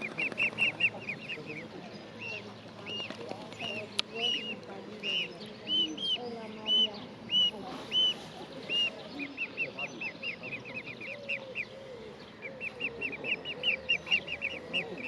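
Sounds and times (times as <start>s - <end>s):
cygnets peeping: 0.0s - 15.0s.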